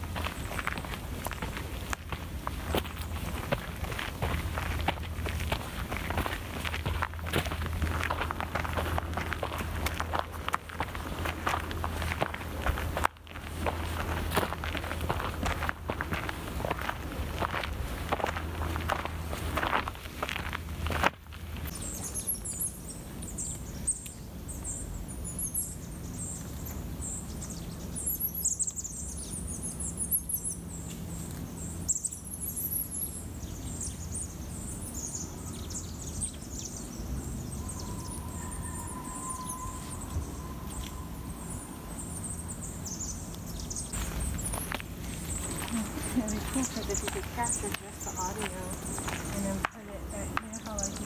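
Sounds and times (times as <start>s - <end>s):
low steady rumble: 0.0s - 51.0s
songbirds chirping: 0.0s - 51.0s.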